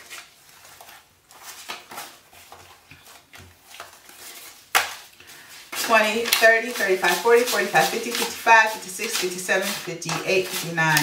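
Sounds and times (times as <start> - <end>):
paper bills rustling: 0.0 - 11.0.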